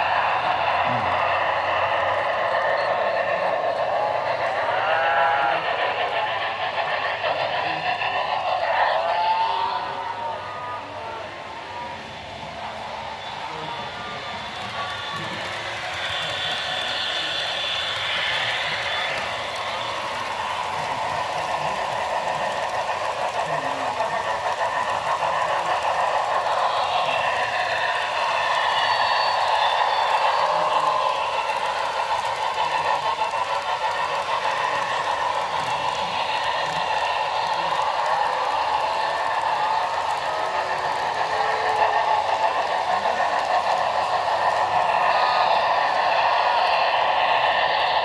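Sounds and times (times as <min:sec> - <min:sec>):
model train wheels rolling on rail: 0:00.0 - 0:48.0.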